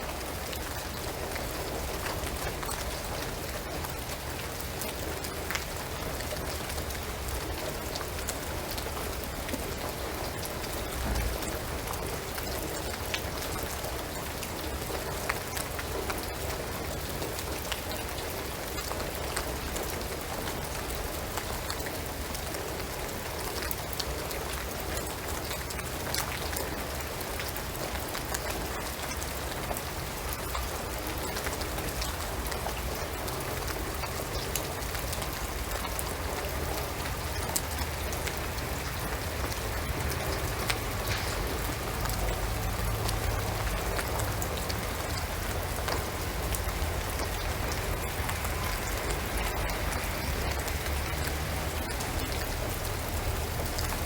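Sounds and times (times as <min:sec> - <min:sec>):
rain falling on a roof: 0:00.0 - 0:54.0.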